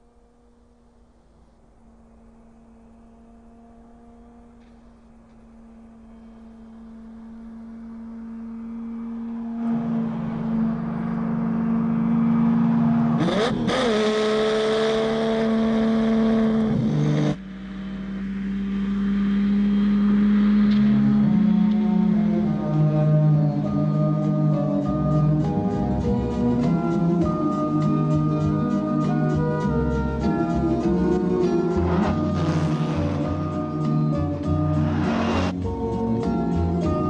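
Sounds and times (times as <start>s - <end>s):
car engine running at speed: 0.0s - 37.0s.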